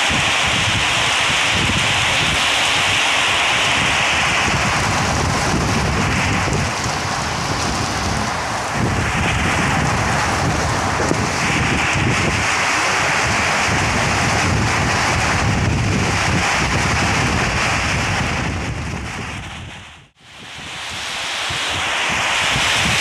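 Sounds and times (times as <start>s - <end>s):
heavy rain pouring: 0.0s - 23.0s
wind buffeting microphone: 0.0s - 23.0s.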